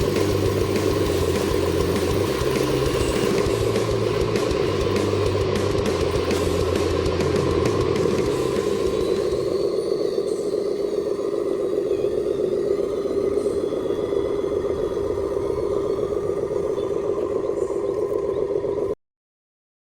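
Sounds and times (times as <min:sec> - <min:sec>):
electric motor and gearbox whine: 0:00.0 - 0:19.0.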